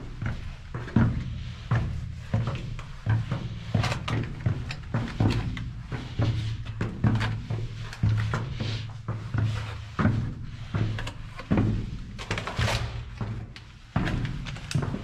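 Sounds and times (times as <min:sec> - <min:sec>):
footsteps on stone floor: 0:00.0 - 0:15.0.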